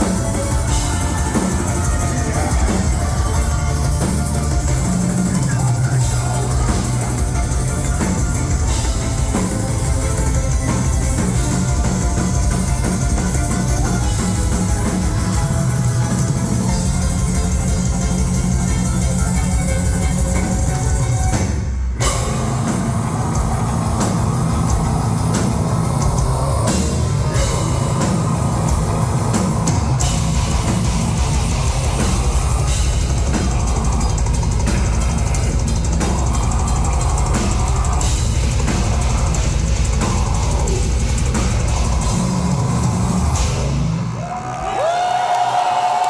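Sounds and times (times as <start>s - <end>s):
live heavy metal band: 0.0s - 46.0s
pounding drum kit: 0.0s - 46.0s.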